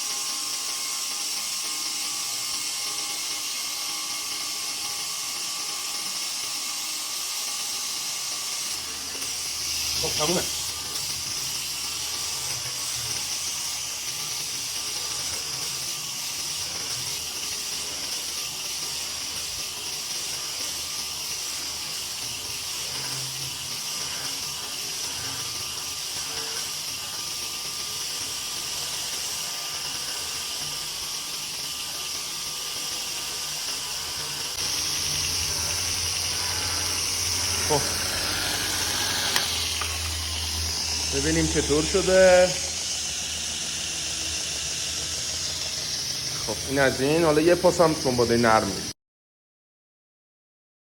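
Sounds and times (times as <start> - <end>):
surface grinder running: 0.0 - 48.9.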